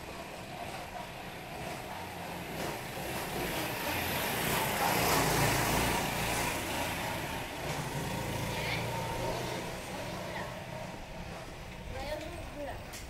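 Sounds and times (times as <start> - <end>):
vehicle passing by: 0.0 - 12.8.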